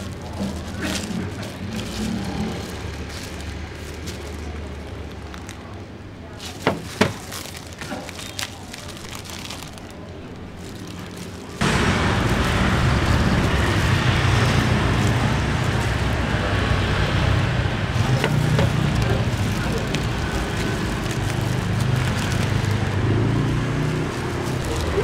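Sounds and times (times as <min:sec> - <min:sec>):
low burner rumble: 0:00.0 - 0:25.0
plastic bag rustling: 0:00.0 - 0:25.0.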